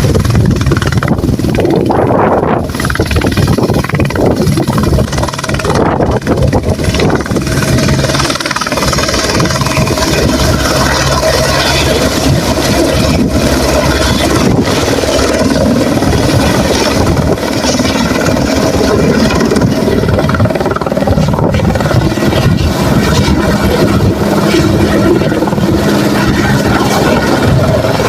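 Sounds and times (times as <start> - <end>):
helicopter turbine and rotor: 0.0 - 28.0
low hum: 0.0 - 28.0.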